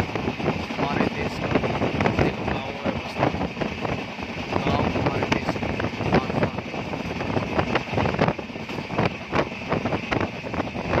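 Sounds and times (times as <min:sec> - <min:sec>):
vehicle rumble: 0:00.0 - 0:11.0
wind on microphone: 0:00.0 - 0:11.0.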